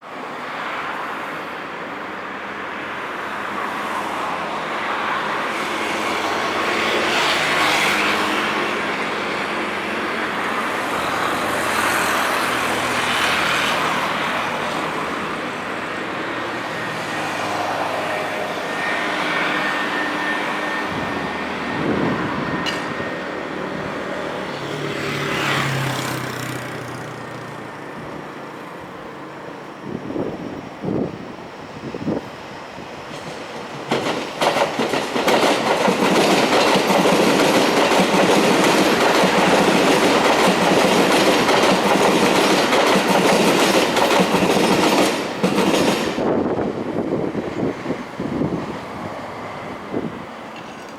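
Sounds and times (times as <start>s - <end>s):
train running on rails: 0.0s - 50.9s.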